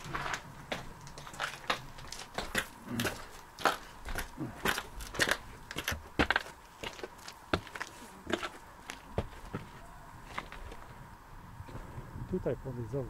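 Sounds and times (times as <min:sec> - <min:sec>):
footsteps crunching on path: 0:00.0 - 0:11.0.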